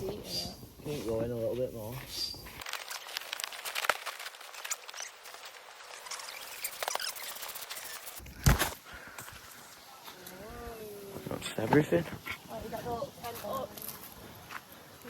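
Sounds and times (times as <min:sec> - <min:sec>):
tent rustling and clicking: 0:00.0 - 0:15.0.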